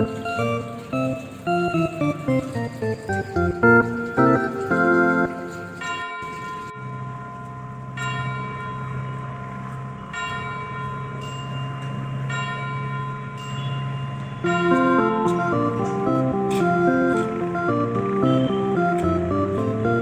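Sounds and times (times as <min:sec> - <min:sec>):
chime-like bell tones: 0:00.0 - 0:17.6.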